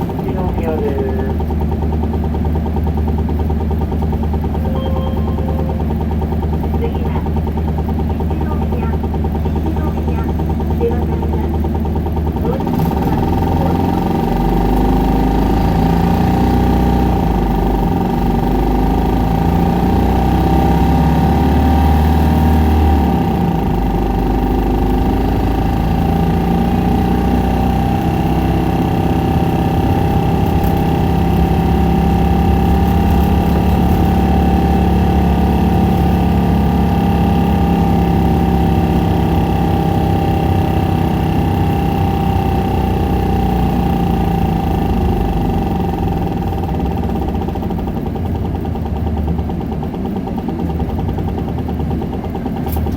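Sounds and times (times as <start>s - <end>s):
bus diesel engine droning: 0.0s - 52.9s
engine whine: 0.0s - 52.9s.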